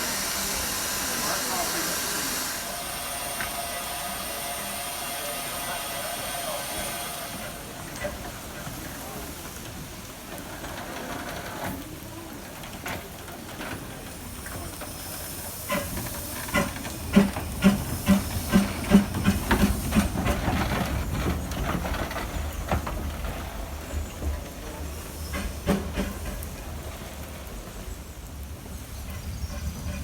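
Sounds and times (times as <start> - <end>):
locomotive chuffing beats: 0.0 - 30.0
low train rumble: 0.0 - 30.0
steam hissing: 0.0 - 30.0.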